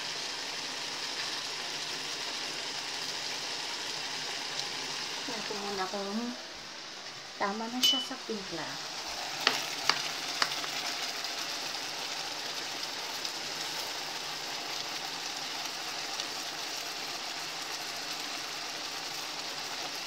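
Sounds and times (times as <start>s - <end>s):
chicken sizzling in a pan: 0.0s - 20.0s.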